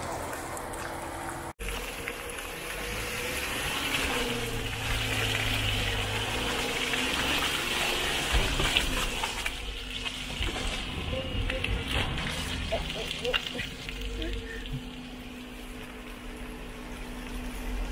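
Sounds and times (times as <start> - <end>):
low engine hum: 0.0 - 17.9.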